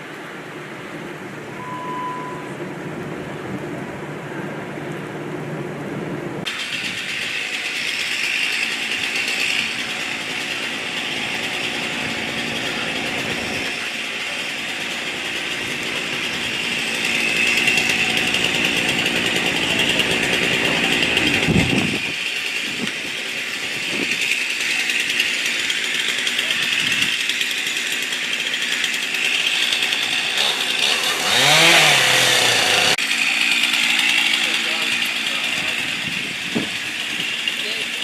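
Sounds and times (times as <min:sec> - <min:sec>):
motor running steadily: 0:00.9 - 0:38.0.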